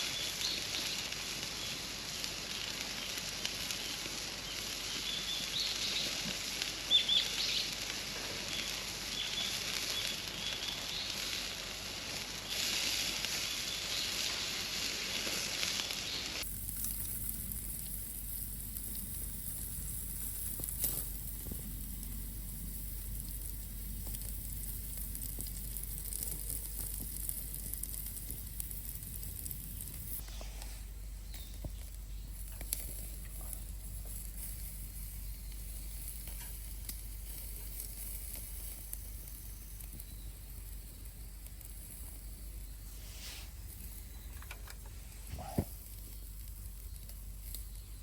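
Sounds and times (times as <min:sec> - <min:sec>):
food sizzling in a pan: 0:00.0 - 0:48.0.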